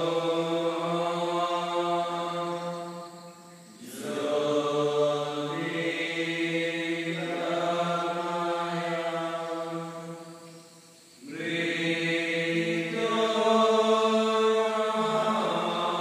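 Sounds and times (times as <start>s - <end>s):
meditative chant: 0.0s - 16.0s.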